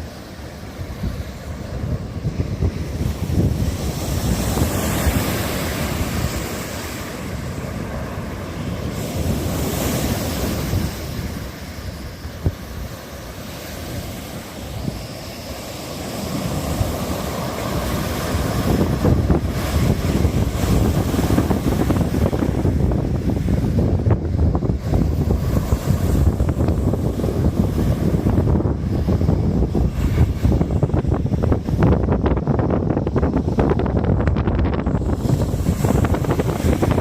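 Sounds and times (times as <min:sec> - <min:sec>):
ocean surf breaking: 0:00.0 - 0:37.0
wind buffeting microphone: 0:00.0 - 0:37.0.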